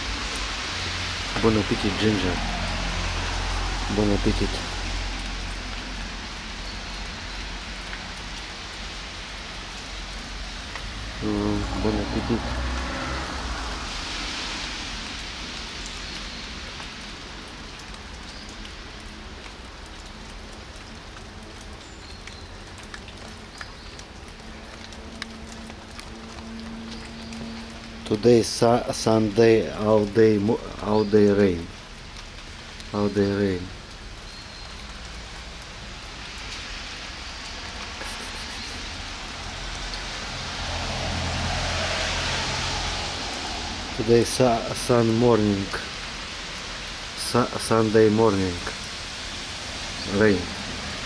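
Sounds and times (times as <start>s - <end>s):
rain on wet pavement: 0.0s - 51.0s.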